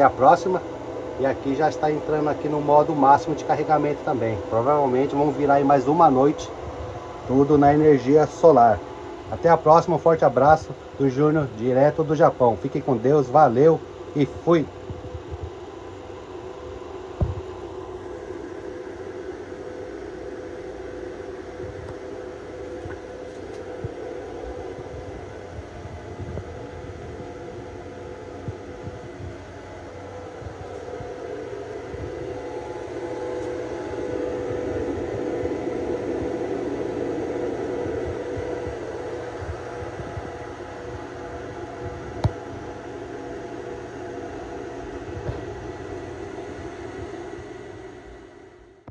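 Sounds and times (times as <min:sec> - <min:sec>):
electrical hum and fan whir: 0:00.0 - 0:48.9.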